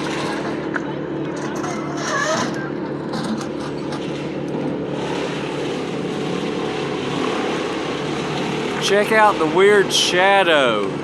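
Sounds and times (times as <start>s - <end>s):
large engine running: 0.0s - 11.0s.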